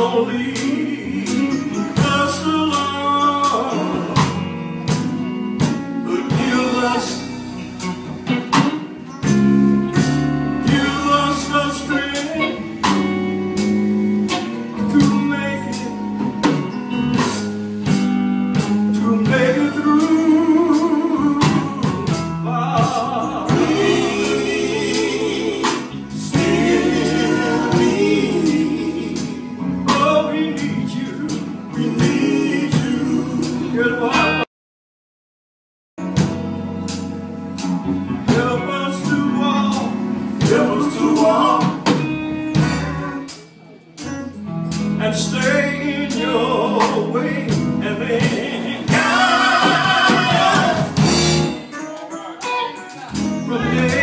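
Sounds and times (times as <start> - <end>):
band with steady drum beat: 0.0 - 34.5, 36.0 - 54.0
voices singing gospel: 0.0 - 34.5, 38.0 - 43.4, 44.8 - 54.0.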